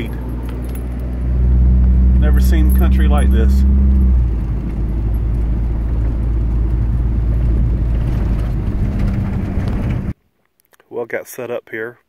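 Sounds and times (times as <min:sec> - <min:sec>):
engine and road rumble: 0:00.0 - 0:10.2.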